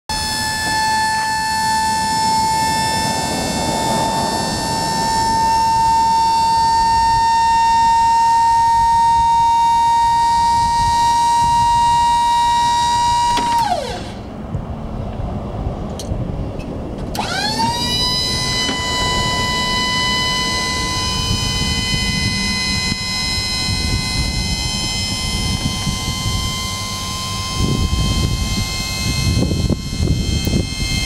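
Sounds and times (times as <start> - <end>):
lift motor whine: 0.1 - 31.0.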